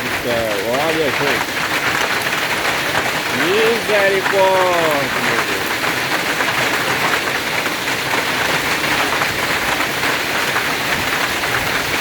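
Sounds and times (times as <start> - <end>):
hailstone impacts: 0.0 - 12.0
heavy rain hissing: 0.0 - 12.0.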